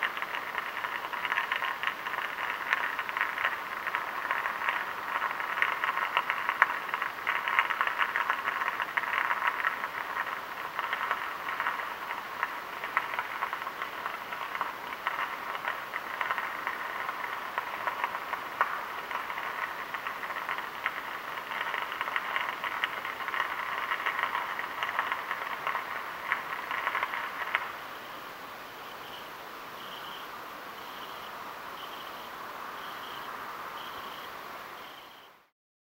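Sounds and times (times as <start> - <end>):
electric arc crackling and buzzing: 0.0 - 35.5.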